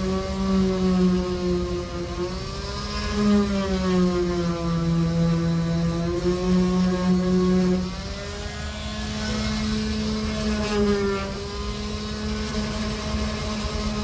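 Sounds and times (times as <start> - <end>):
power tool motor whine: 0.0 - 14.0.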